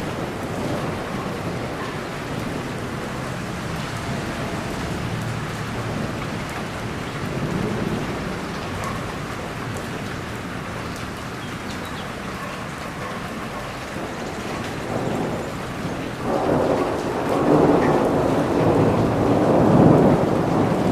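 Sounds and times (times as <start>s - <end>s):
distant thunder rumble: 0.0s - 10.6s, 13.9s - 20.9s
rain falling: 0.0s - 20.9s.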